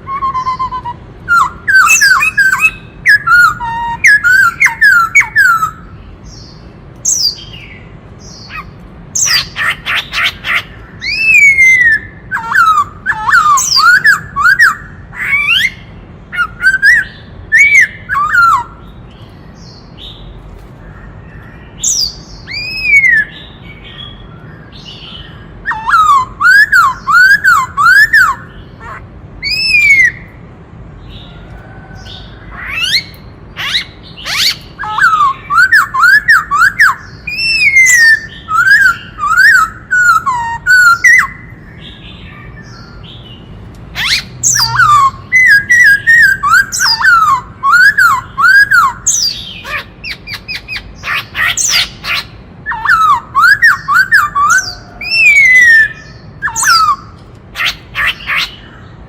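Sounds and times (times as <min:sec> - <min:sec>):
bird singing whistled phrases: 0:00.0 - 0:05.9, 0:08.5 - 0:18.8, 0:21.8 - 0:28.5, 0:29.4 - 0:30.3, 0:32.6 - 0:41.6, 0:44.0 - 0:58.6.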